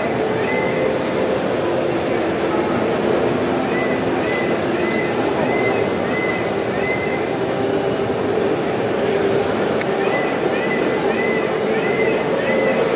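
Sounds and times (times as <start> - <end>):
crowd hubbub: 0.0 - 12.9.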